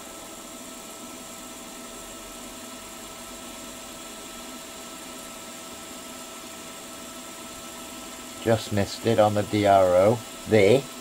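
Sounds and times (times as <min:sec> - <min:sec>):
milling machine motor humming: 0:00.0 - 0:11.0.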